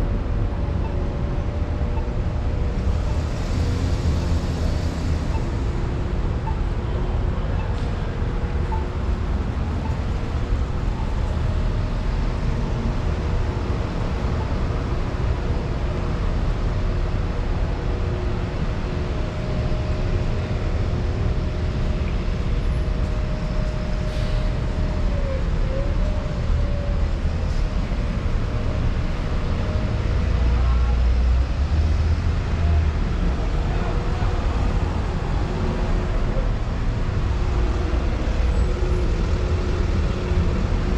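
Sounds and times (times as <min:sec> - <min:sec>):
traffic rumble: 0:00.0 - 0:40.9.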